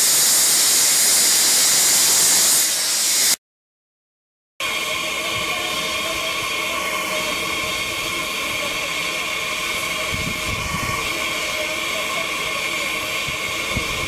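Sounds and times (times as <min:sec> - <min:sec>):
steam hissing: 0:00.0 - 0:03.4, 0:04.6 - 0:14.0.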